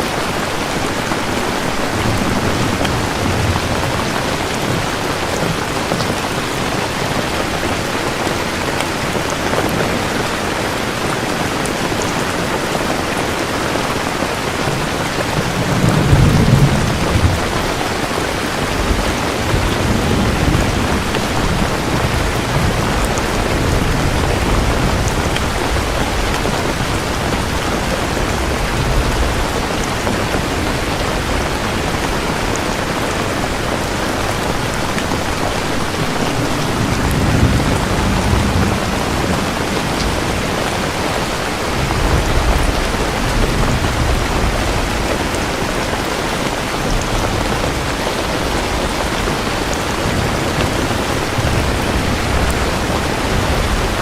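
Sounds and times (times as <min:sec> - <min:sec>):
heavy rain: 0:00.0 - 0:54.0
low rolls of thunder: 0:00.1 - 0:07.9, 0:14.0 - 0:32.7, 0:33.3 - 0:54.0.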